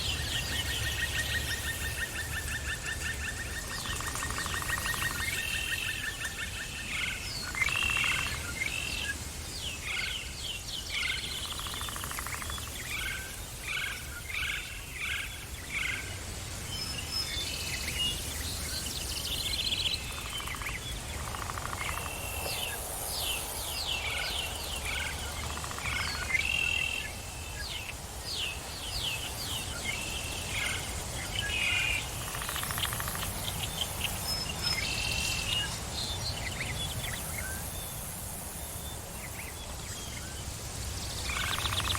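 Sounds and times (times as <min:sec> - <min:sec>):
steady low background noise: 0:00.0 - 0:41.9.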